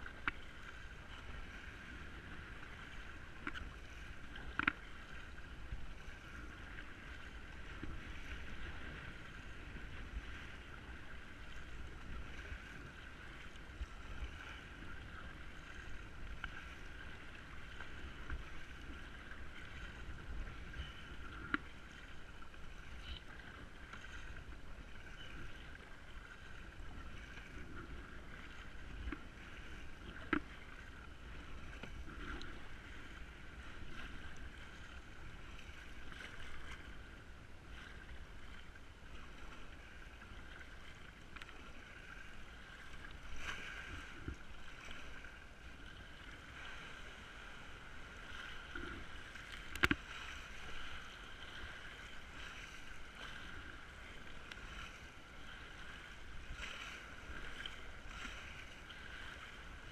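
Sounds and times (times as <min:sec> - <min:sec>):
paddle strokes: 0:00.0 - 0:59.9
water sloshing: 0:00.0 - 0:59.9.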